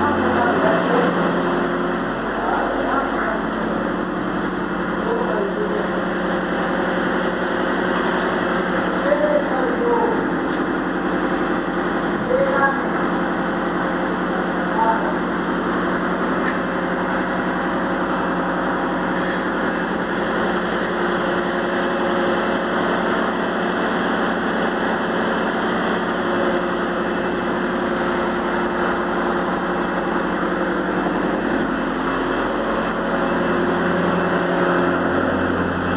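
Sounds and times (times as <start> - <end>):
machine humming steadily: 0.0 - 35.9.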